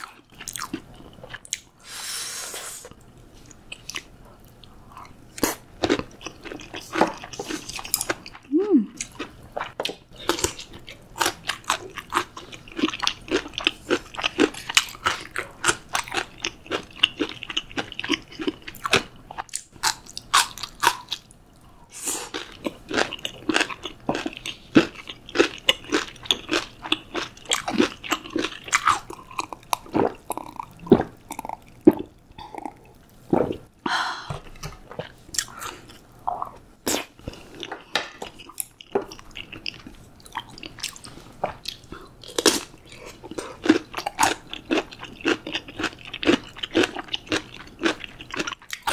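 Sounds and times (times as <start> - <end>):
person chewing crunchy food: 0.0 - 2.0, 2.8 - 33.7, 34.4 - 48.9.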